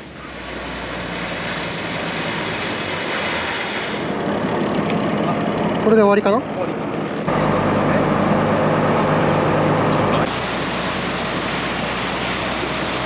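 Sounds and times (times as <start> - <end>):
water rushing: 0.0 - 5.7, 7.3 - 13.0
engine running: 0.0 - 13.0.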